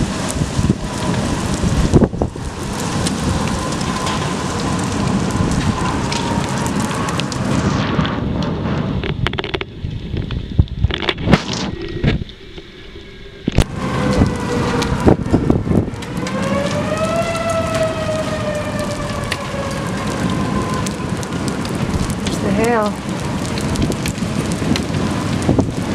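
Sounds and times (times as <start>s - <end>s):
heavy rain: 0.0s - 25.9s
tornado warning siren wailing: 0.0s - 25.9s.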